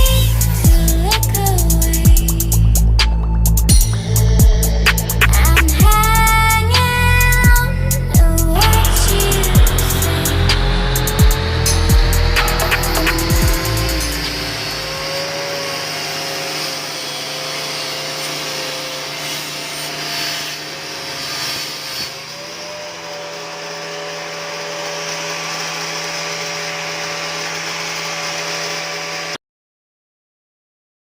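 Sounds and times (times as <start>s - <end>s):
angle grinder motor whining: 0.0s - 29.4s
disc cutting wood: 3.9s - 29.4s.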